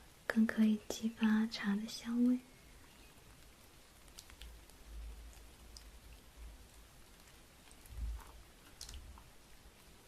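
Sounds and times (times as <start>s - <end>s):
light rain pattering: 0.0s - 10.0s
soft drip-like ticks: 1.8s - 10.0s.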